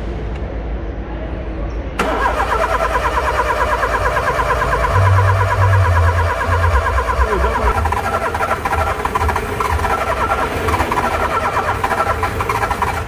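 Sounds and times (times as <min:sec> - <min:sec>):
low hum: 0:00.0 - 0:12.5
car starter clicking rapidly: 0:02.0 - 0:13.0.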